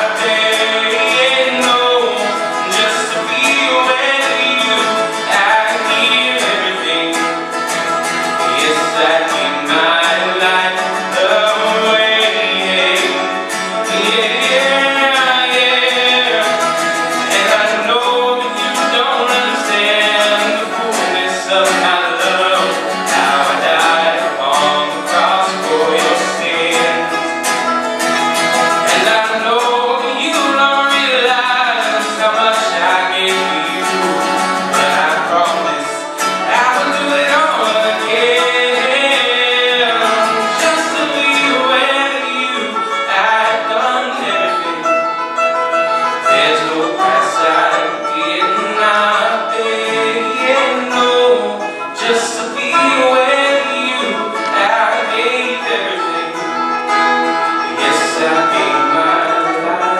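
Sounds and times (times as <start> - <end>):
man singing into a microphone: 0.0 - 27.7, 28.7 - 45.3, 45.9 - 59.9
acoustic guitar: 0.0 - 59.9
banjo picking: 0.0 - 59.9.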